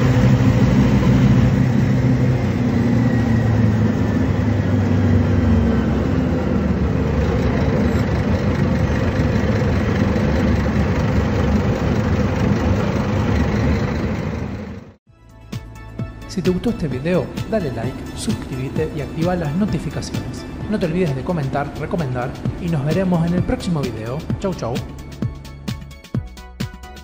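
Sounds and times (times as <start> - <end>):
bus diesel engine running: 0.0 - 15.0, 16.0 - 26.4.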